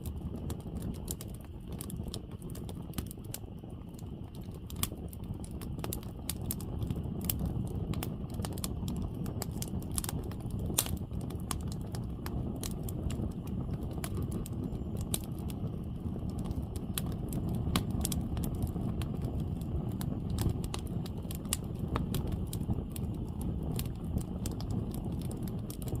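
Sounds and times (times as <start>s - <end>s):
bonfire crackling and popping: 0.0s - 26.0s
low fire rumble: 0.0s - 26.0s.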